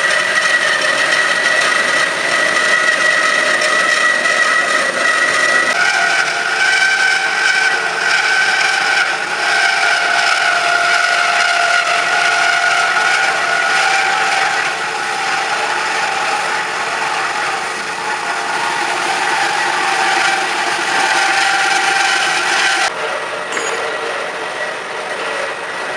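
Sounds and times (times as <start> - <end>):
band saw cutting metal: 0.0 - 25.9.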